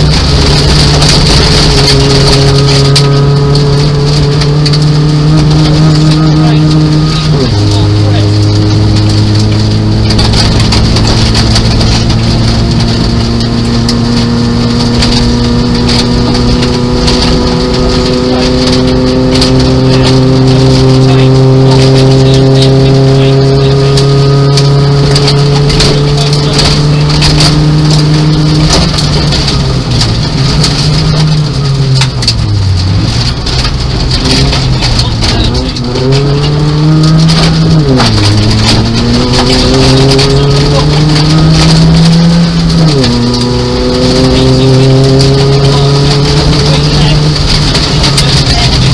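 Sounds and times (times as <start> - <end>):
gravel clattering against car: 0.0 - 48.9
rally car engine revving: 0.0 - 48.9.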